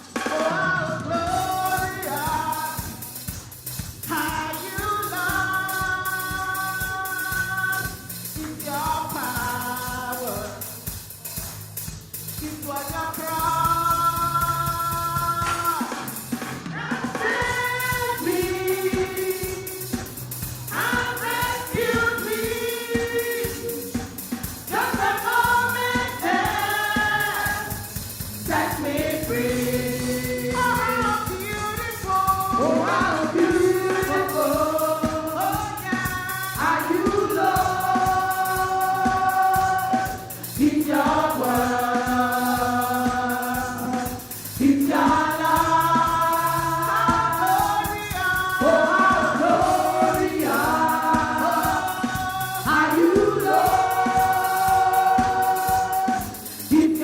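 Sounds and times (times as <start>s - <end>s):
gospel choir singing: 0.0s - 11.6s, 12.4s - 57.0s
instrumental accompaniment with beat: 0.0s - 57.0s.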